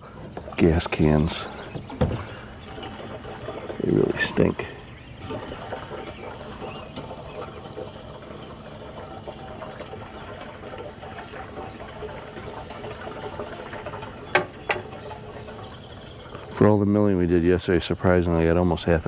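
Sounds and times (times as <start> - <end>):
gasoline trickling into tank: 0.0 - 19.0.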